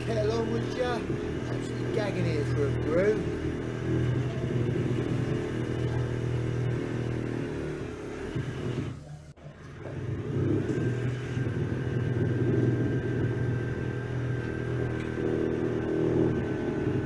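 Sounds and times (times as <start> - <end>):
power tool motor humming and whining: 0.0 - 17.0.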